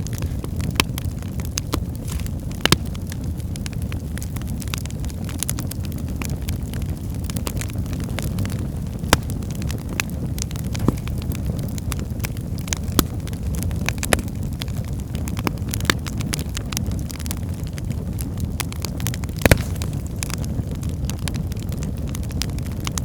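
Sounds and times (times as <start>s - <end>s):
fire crackling: 0.0s - 23.0s
fire flames rumbling: 0.0s - 23.0s
firewood popping: 0.0s - 23.0s.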